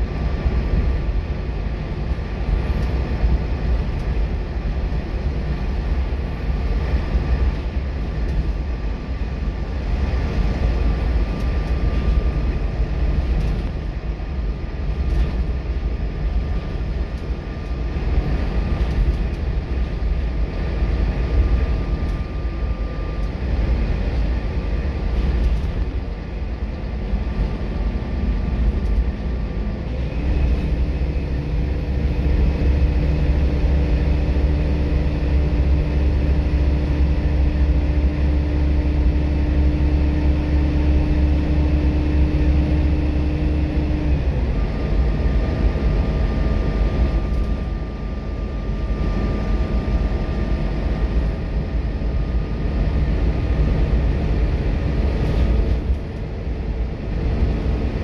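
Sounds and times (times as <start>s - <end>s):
bus diesel engine rumble: 0.0s - 58.0s
road noise: 0.0s - 58.0s.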